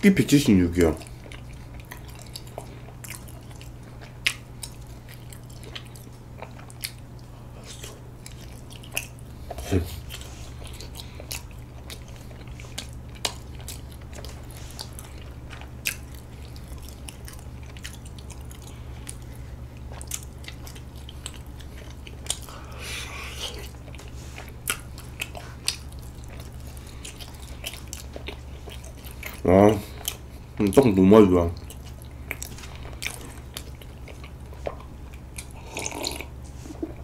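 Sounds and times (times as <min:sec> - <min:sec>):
chewing and mouth sounds: 0:00.2 - 0:37.0.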